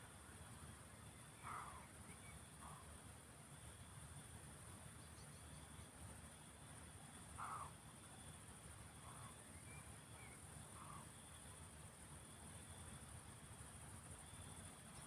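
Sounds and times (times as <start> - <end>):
crickets chirring: 0.6 - 15.0.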